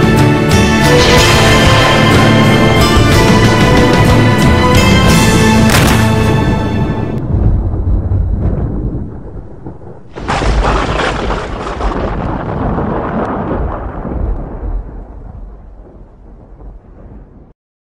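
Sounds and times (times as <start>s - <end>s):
loud rolling crash: 0.9s - 15.4s
low rumble: 0.9s - 17.5s.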